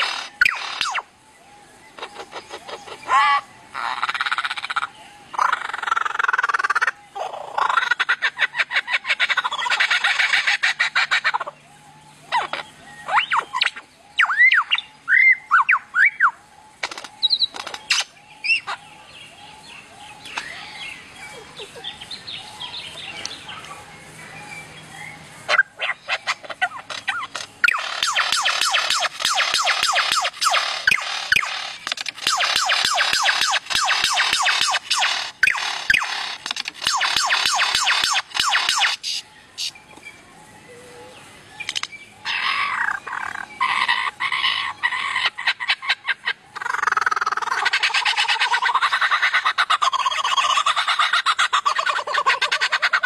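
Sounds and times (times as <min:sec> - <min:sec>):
lyrebird singing: 0:00.0 - 0:53.0.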